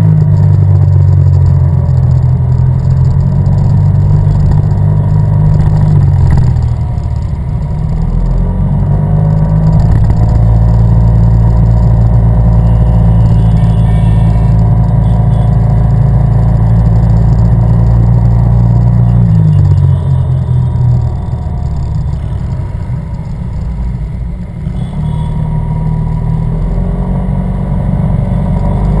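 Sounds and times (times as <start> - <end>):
scooter engine running: 0.0 - 29.0.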